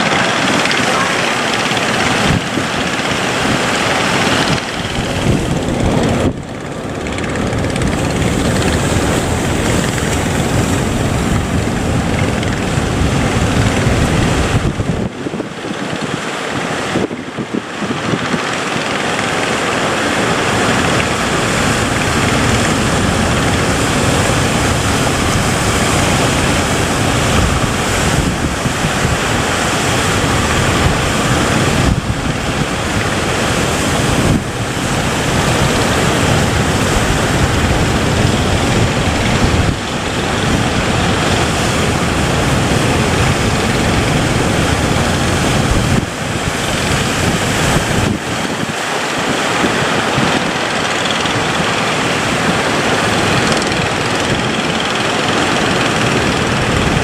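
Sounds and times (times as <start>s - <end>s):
waves washing: 0.0s - 57.0s
wind buffeting microphone: 0.0s - 57.0s.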